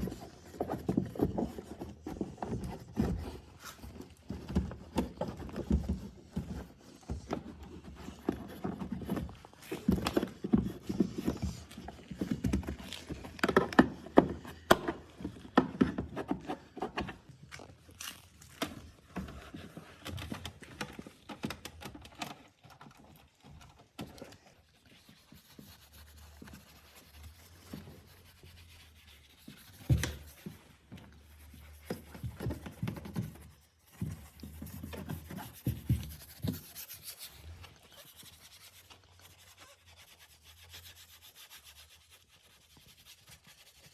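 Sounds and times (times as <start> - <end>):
rubbing and scrubbing surfaces: 0.0 - 43.9.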